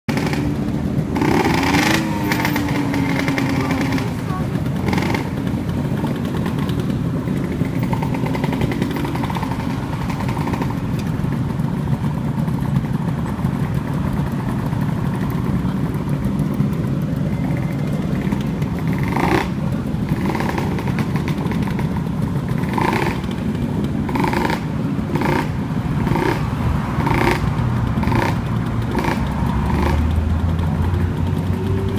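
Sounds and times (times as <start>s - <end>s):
city traffic rumble: 0.0s - 31.9s
deep engine drone: 0.1s - 31.9s
motorcycles and scooters idling: 0.1s - 31.9s.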